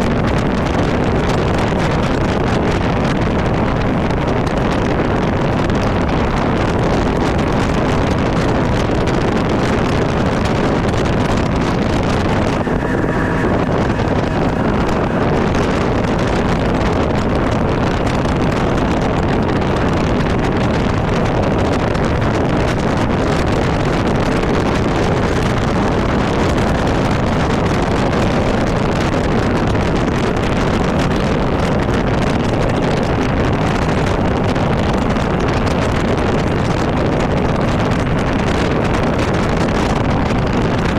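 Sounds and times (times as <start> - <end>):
boat motor: 0.0 - 40.9
wind buffeting microphone: 0.0 - 40.9.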